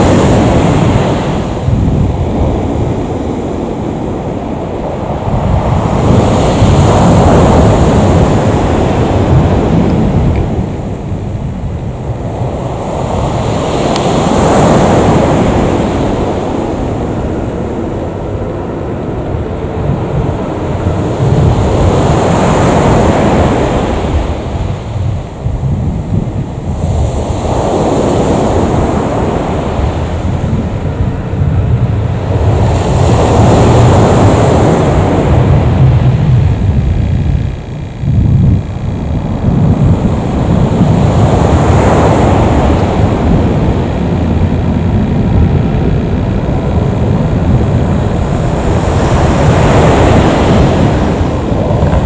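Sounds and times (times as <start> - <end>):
turboprop engines rumbling: 0.0 - 52.0.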